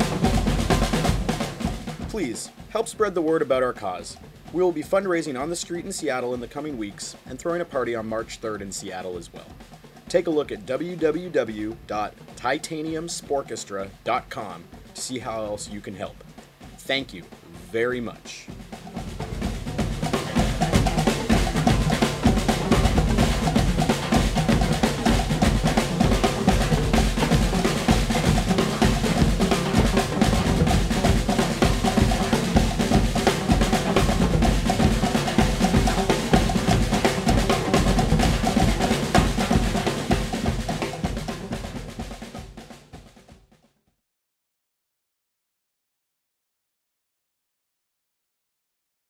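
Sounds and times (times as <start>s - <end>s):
marching band playing: 0.0s - 43.4s
snare and bass drum beat: 0.0s - 43.7s.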